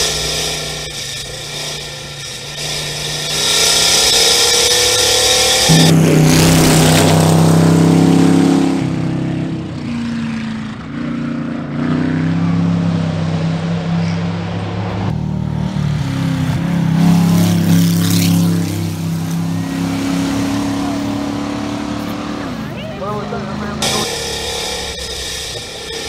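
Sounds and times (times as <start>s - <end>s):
car engine revving hard: 0.0s - 26.0s.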